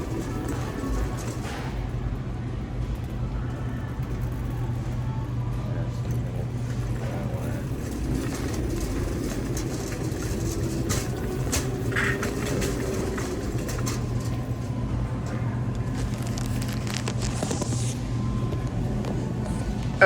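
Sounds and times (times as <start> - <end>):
scattered clicks and rattles: 0.0 - 2.2, 2.8 - 17.8
low hum and rumble: 0.0 - 20.0.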